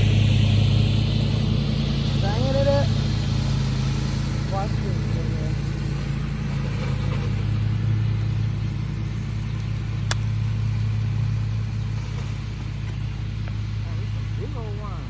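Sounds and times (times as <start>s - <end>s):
motor humming steadily: 0.0s - 15.0s.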